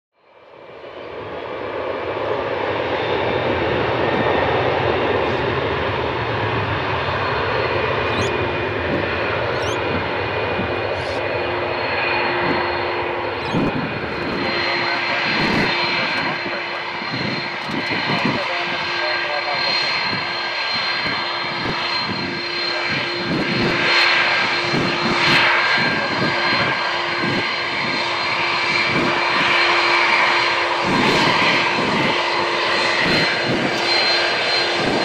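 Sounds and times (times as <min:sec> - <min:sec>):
jet engines roaring with whine: 0:00.2 - 0:35.0.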